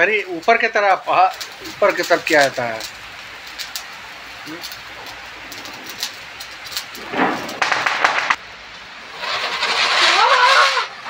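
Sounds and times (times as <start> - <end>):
ground firework hissing: 0.0 - 11.0
sparklers fizzing and crackling: 0.0 - 11.0.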